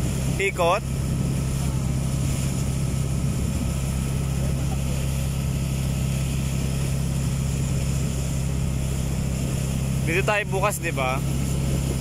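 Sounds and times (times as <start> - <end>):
boat engine drone: 0.0 - 12.0
wind and water hiss: 0.0 - 12.0.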